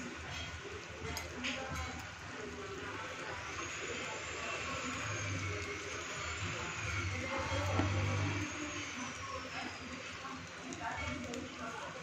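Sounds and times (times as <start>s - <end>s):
batter sizzling hiss: 0.0s - 12.0s.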